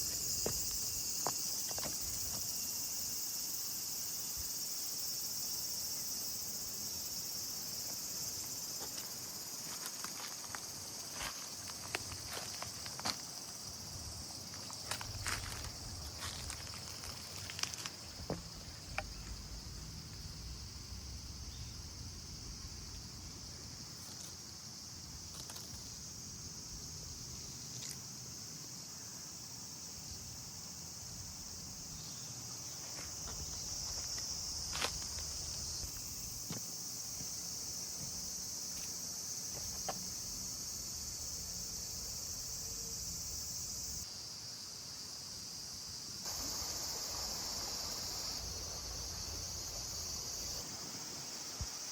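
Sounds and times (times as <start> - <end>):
insects chorus: 0.0 - 51.9.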